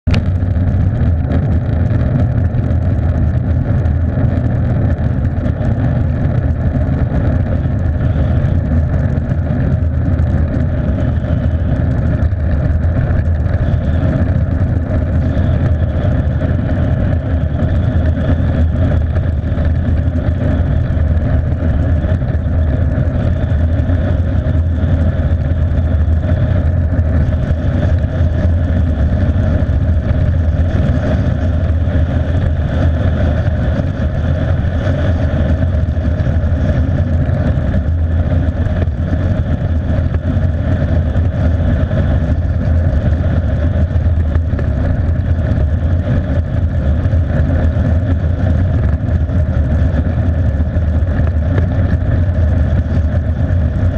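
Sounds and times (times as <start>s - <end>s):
vehicle engine drone: 0.0s - 53.9s
wind rush: 0.0s - 53.9s.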